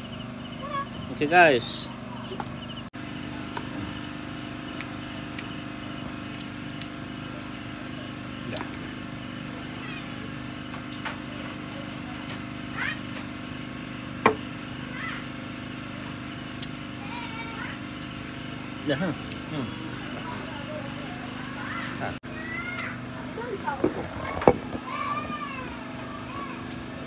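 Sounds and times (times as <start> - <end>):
small engine humming: 0.0 - 27.0.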